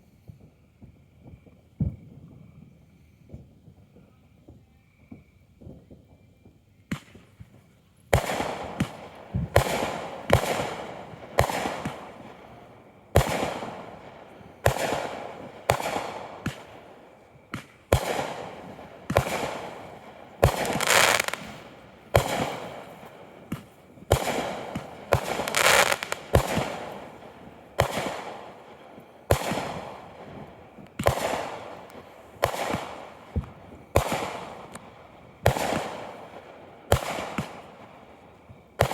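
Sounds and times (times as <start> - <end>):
fireworks bursting: 5.2 - 38.9.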